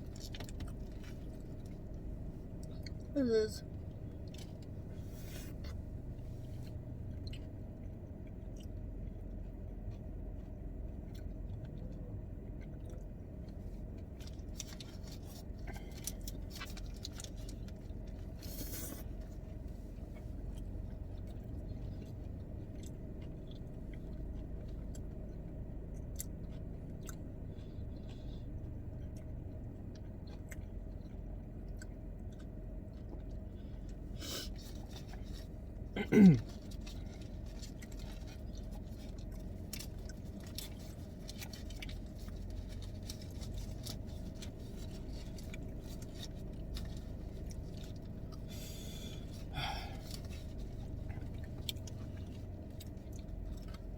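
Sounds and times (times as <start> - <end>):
chewing food: 0.0 - 53.9
steady low hum: 0.0 - 53.9.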